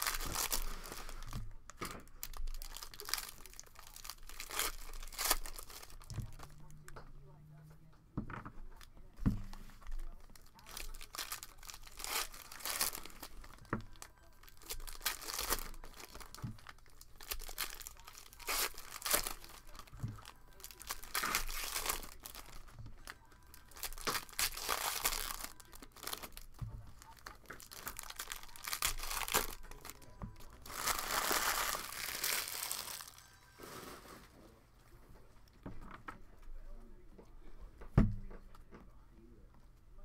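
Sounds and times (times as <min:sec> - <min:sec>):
foil wrappers crinkling and tearing: 0:00.0 - 0:07.0, 0:08.6 - 0:34.4.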